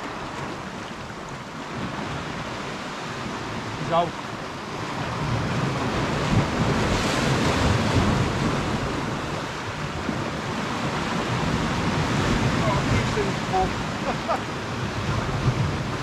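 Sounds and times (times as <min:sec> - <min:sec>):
sea waves breaking on rocks: 0:00.0 - 0:16.0
wind buffeting microphone: 0:00.0 - 0:16.0.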